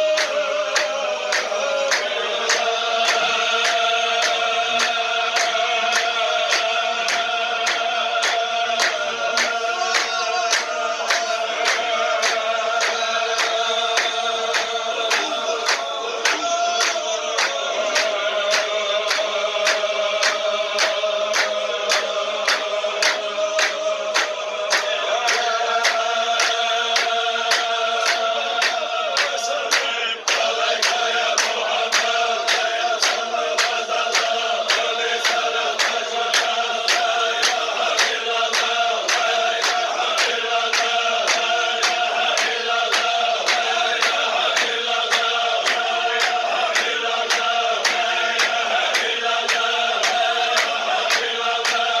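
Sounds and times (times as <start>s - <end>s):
hand claps: 0.0s - 52.0s
men chanting in unison: 0.0s - 52.0s.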